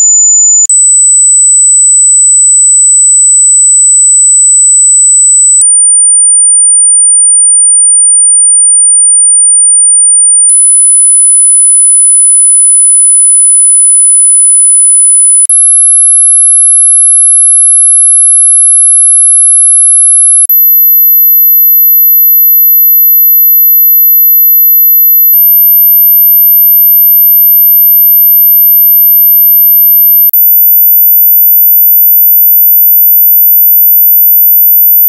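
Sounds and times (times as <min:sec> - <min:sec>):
high-pitched sine tone: 0:00.0 - 0:00.8, 0:05.6 - 0:35.0.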